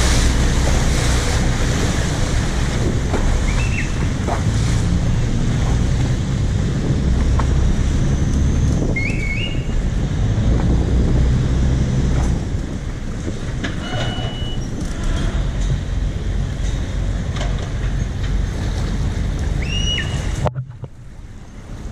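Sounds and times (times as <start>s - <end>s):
boat engine rumbling: 0.0s - 21.9s
water churning: 0.0s - 21.9s
wind along hull: 0.0s - 21.9s.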